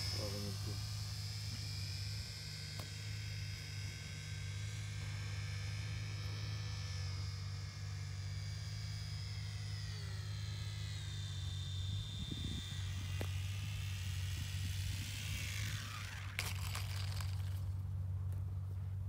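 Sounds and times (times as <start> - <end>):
model plane motor whining: 0.0 - 18.7
steady low hum: 0.0 - 19.0.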